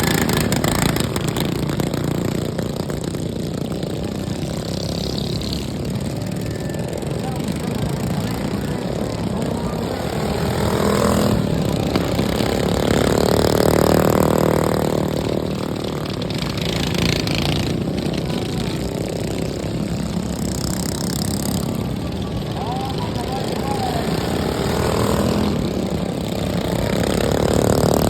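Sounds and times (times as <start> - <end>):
racing lawnmower engines: 0.0 - 28.0.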